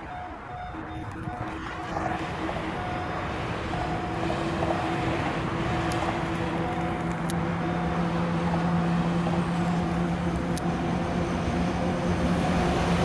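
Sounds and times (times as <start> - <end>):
electric locomotive hauling train: 0.0 - 13.0.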